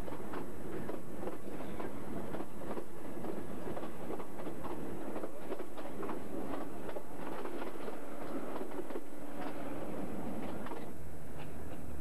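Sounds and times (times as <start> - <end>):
train wheels clicking over rail joints: 0.0 - 9.7, 10.3 - 11.9
train rumble: 0.0 - 12.0.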